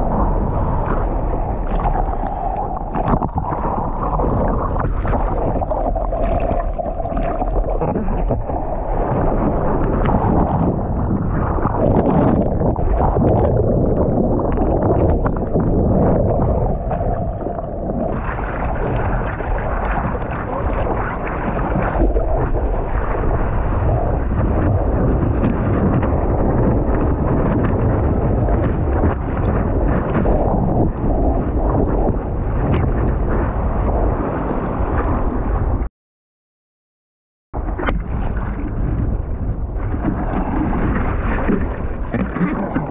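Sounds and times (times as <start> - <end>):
sea water sloshing: 0.0 - 35.8, 37.6 - 42.9
wind rumbling on microphone: 0.0 - 35.9, 37.6 - 42.9.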